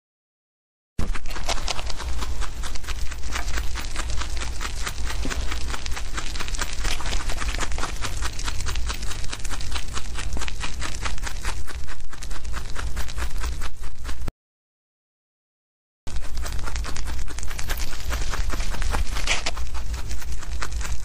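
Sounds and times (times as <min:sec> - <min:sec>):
low steady hum: 0:01.0 - 0:14.1, 0:16.1 - 0:21.0
rabbits chewing grass: 0:01.0 - 0:14.3, 0:16.1 - 0:21.0.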